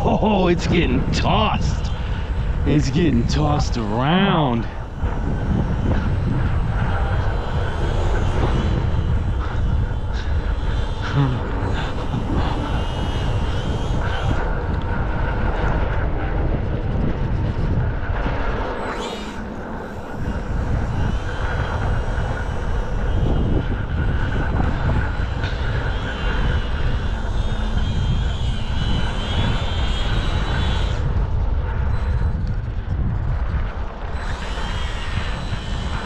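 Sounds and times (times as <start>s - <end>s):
electric motor and propeller whine: 0.0s - 36.0s
wind buffeting microphone: 0.0s - 36.0s.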